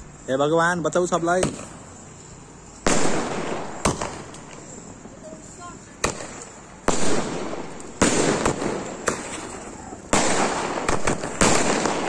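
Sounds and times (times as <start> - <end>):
crackling hiss: 0.0 - 12.0
fireworks bangs: 0.8 - 12.0.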